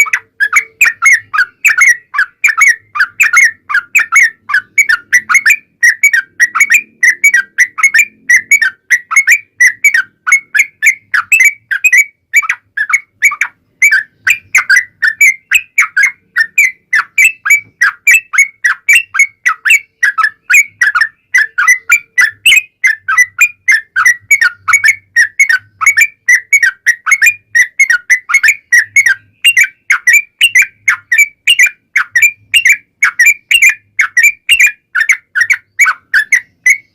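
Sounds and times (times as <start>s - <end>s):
bird singing whistled notes: 0.0s - 36.9s.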